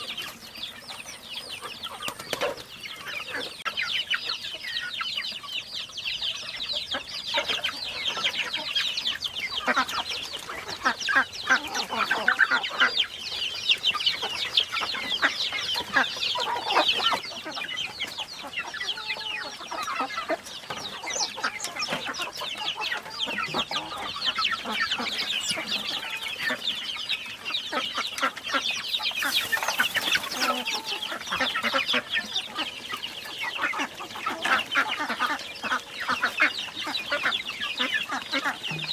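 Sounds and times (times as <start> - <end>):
chickens clucking and peeping: 0.0 - 38.9.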